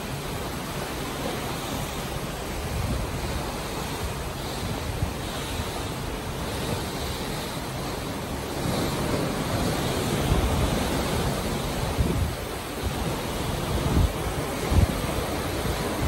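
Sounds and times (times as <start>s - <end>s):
sea water rushing along hull: 0.0s - 16.0s
wind buffeting microphone: 0.0s - 16.0s.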